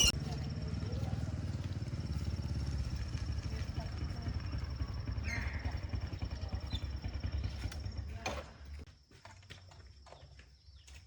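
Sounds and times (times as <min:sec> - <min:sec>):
small engine rumbling: 0:00.0 - 0:10.1.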